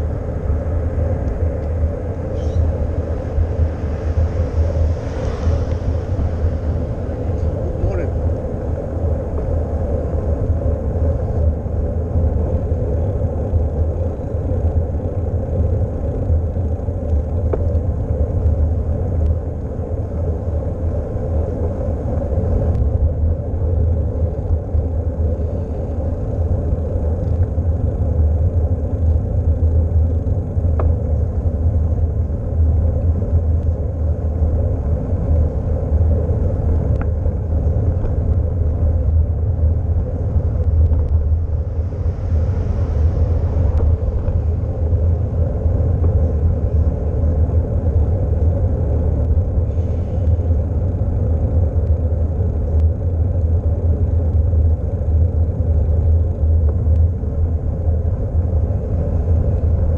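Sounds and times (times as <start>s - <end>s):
tyre and road noise: 0.0s - 59.9s
wind rumble on microphone: 0.0s - 59.9s.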